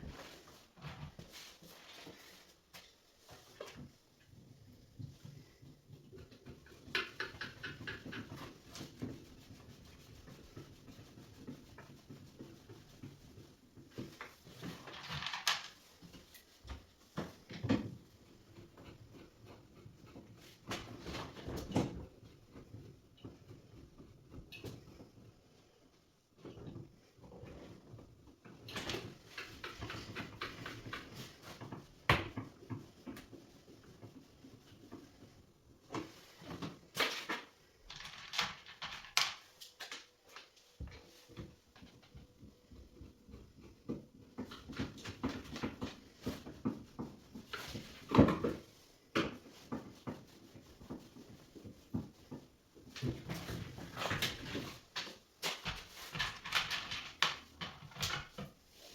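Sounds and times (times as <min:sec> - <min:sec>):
knocks and rustling: 0:00.0 - 0:25.7, 0:26.4 - 0:58.9.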